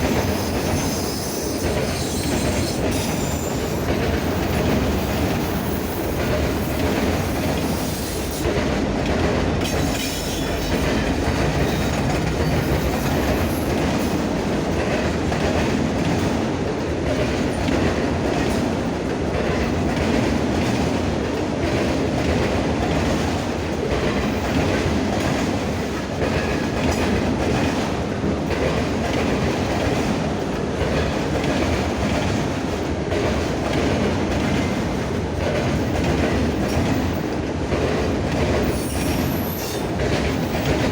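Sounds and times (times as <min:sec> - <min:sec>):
freight train rumbling past: 0:00.0 - 0:40.9
wheels clacking over rail joints: 0:00.0 - 0:40.9.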